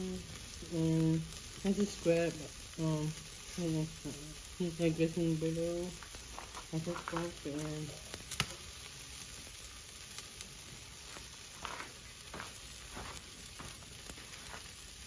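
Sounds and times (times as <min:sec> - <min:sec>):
chicken sizzling on a grill: 0:00.0 - 0:15.0.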